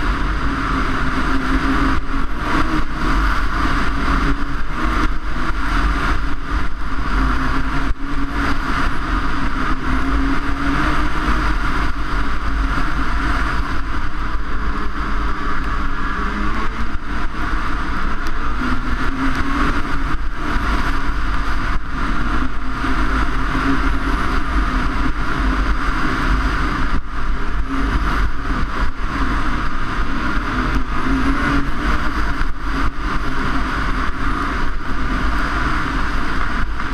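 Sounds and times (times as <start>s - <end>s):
snowmobile engine running: 0.0s - 36.9s
wind on microphone: 0.0s - 36.9s.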